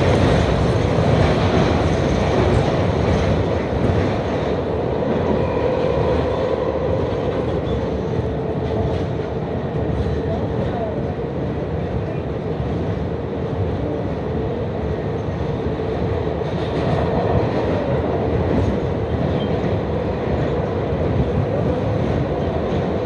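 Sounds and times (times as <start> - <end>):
subway train wheels on rails: 0.0 - 23.0.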